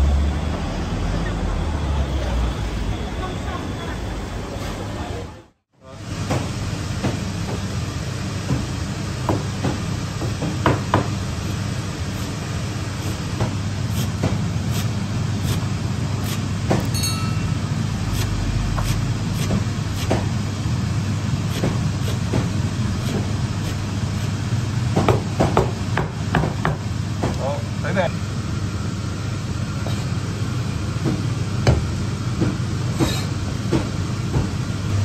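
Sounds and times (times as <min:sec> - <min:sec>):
kitchen machinery hum: 0:00.0 - 0:35.0.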